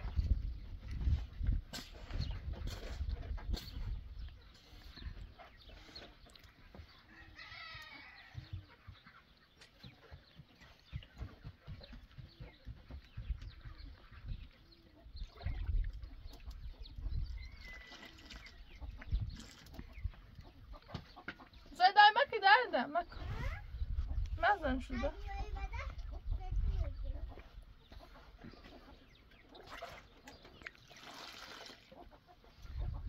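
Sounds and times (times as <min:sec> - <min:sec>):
chickens clucking: 0:00.0 - 0:31.0, 0:31.8 - 0:33.0.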